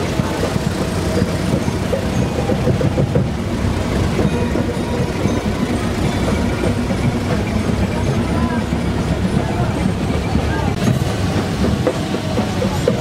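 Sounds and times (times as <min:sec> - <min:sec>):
off-road vehicle engines running: 0:00.0 - 0:13.0.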